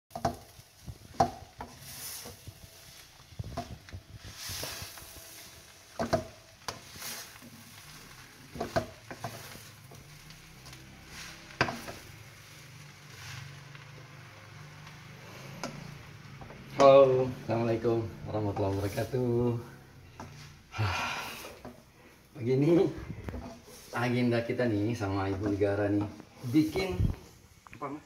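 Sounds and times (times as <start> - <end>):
spatula scraping a wok: 0.1 - 16.8, 17.5 - 27.1
faint sizzle: 0.1 - 28.0.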